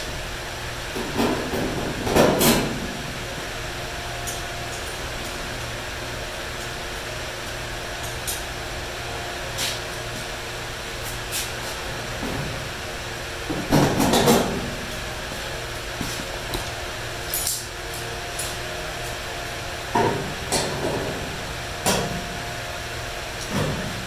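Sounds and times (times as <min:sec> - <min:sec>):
workshop hum: 0:00.0 - 0:24.0.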